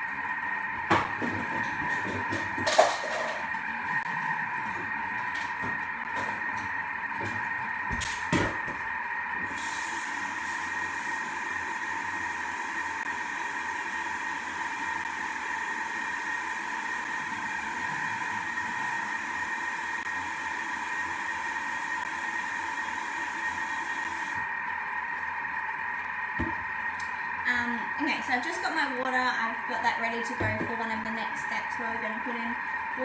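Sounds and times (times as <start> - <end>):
food processor whining: 0.0 - 33.0.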